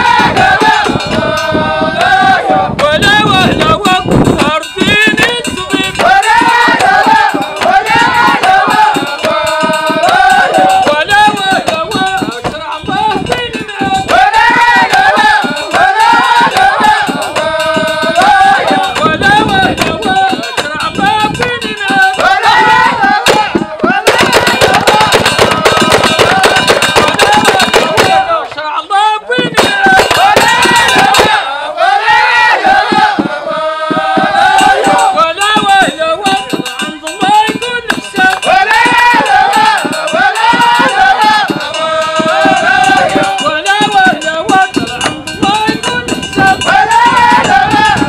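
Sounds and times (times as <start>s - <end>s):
fast rhythmic hand clapping: 0.0s - 28.6s, 29.4s - 31.5s, 32.6s - 48.0s
men singing together: 0.0s - 48.0s.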